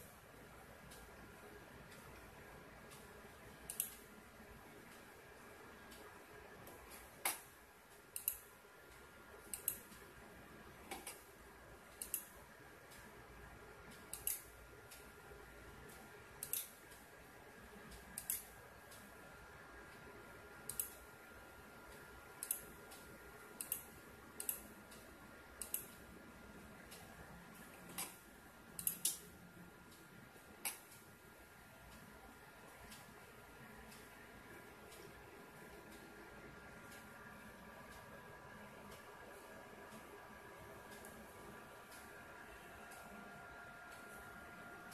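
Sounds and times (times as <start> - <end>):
thin steady tones: 0.0 - 44.9.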